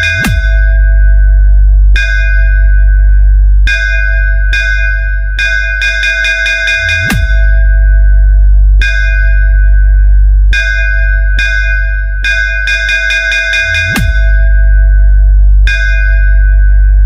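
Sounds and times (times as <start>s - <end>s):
diving bass sweep: 0.0s - 6.2s, 6.8s - 12.8s, 13.7s - 17.0s
heavy sub-bass: 0.0s - 17.0s
ringing bell-like synth chord: 0.0s - 17.0s.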